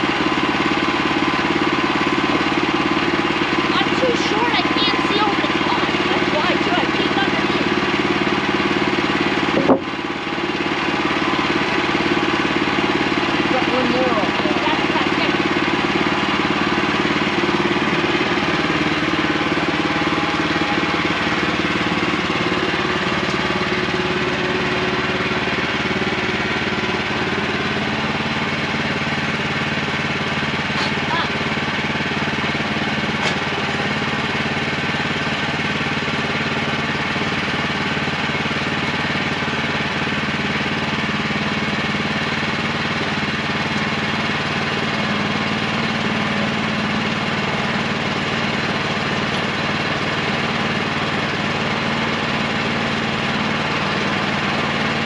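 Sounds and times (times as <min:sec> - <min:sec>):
sawmill gasoline engine running: 0:00.0 - 0:55.0.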